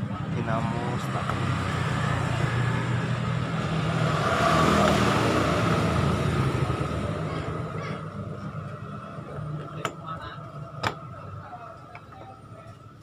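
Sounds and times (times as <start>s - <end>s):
passing road vehicle: 0.0s - 11.8s
low steady engine hum: 0.0s - 13.0s.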